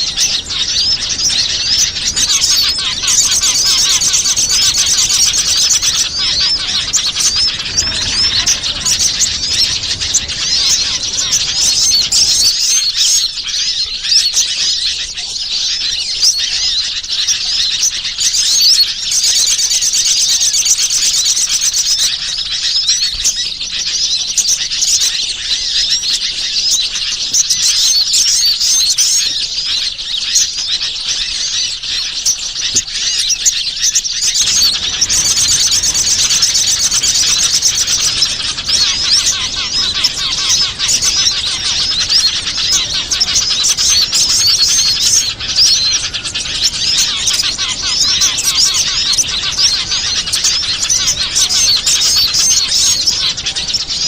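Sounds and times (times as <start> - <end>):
fast repeated bird trill: 0.0 - 54.0
songbirds chirping and twittering: 0.0 - 54.0.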